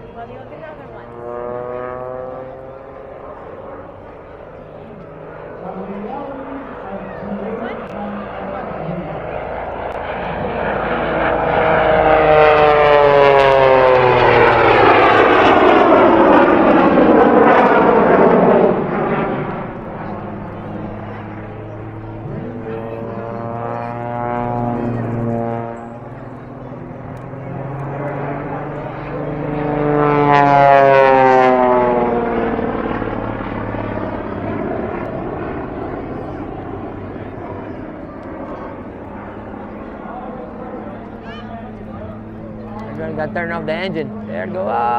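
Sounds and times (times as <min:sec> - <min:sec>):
propeller airplane passing: 0:00.0 - 0:44.9.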